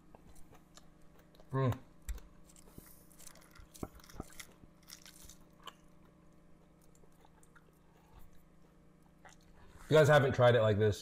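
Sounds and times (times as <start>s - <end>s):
chewing and crunching: 0.0s - 9.9s.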